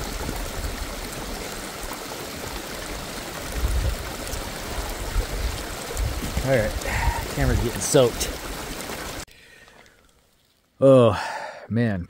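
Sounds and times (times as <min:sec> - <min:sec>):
creek water rushing: 0:00.0 - 0:09.9.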